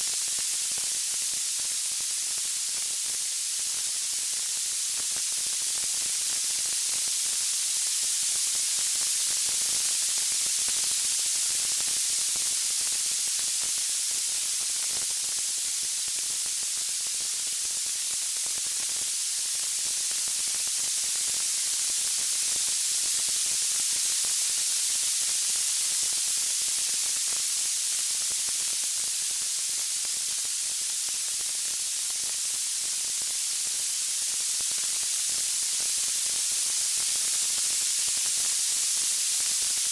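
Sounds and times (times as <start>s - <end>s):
bright white noise hiss: 0.0s - 39.9s.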